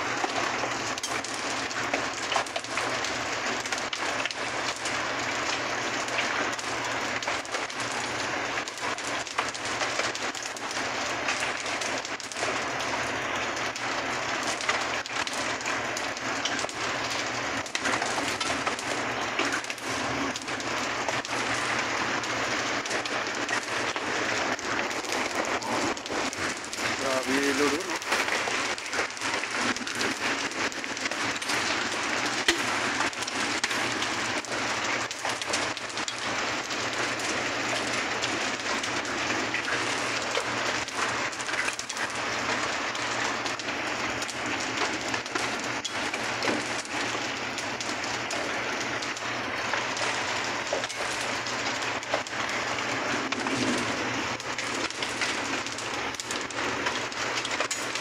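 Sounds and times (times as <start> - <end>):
hail and rain pelting pavement: 0.0 - 58.0.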